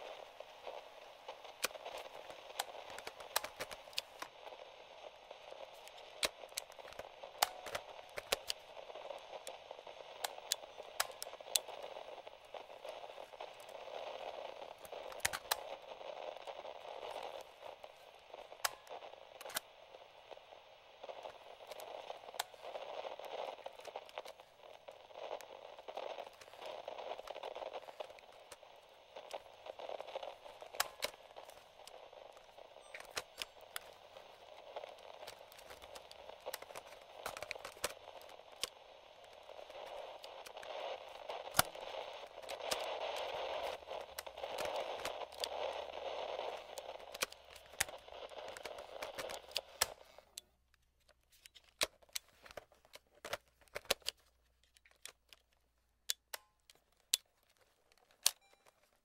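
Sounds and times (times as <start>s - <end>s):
radio static hiss: 0.0s - 50.6s
faint clicks and crackles: 0.0s - 59.0s.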